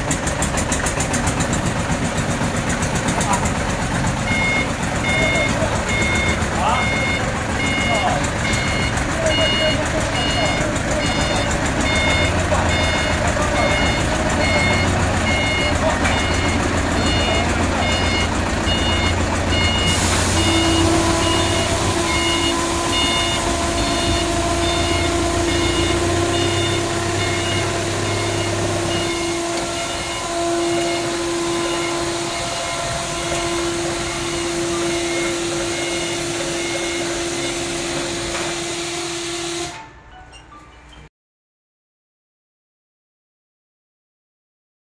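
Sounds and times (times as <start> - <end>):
forklift engine rumble: 0.0 - 40.3
reversing alarm beeping: 1.7 - 41.0.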